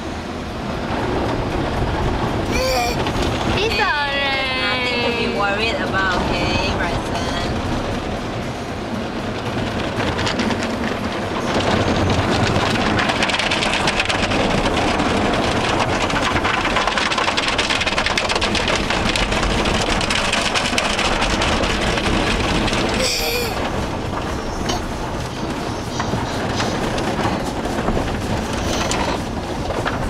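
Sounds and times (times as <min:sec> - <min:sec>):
car wash water spraying: 0:00.0 - 0:30.0.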